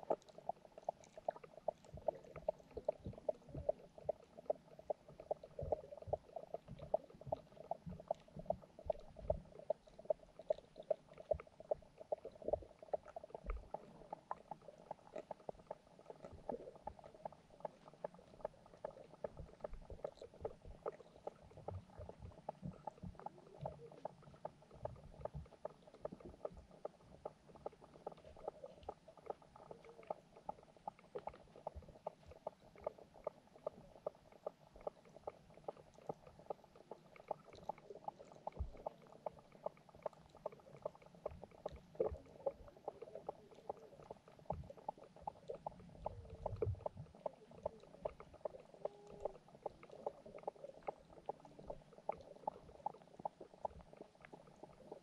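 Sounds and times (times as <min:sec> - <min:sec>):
small underwater clicks: 0:00.0 - 0:55.0.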